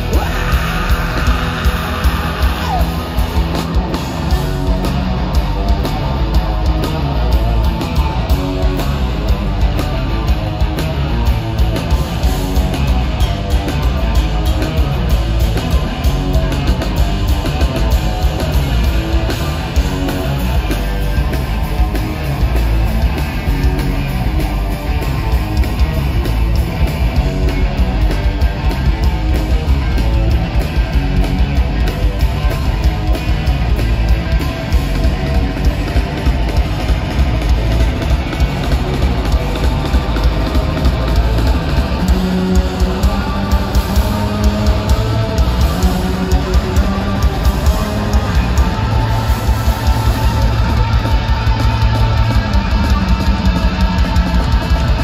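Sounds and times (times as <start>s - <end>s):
live rock band playing loud: 0.0s - 55.0s.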